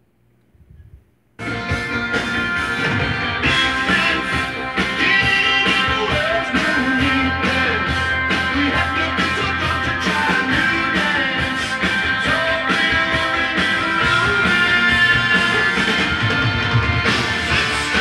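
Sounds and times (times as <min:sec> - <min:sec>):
rock music from vinyl record: 0:01.4 - 0:18.0.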